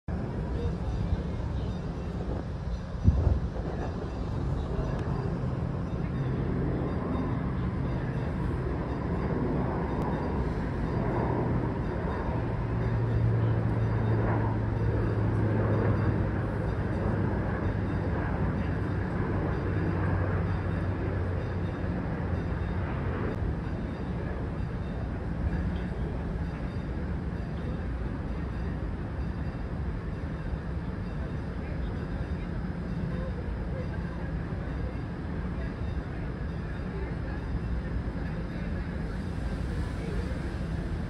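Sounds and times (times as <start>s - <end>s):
ship engines rumbling: 0.1s - 41.0s.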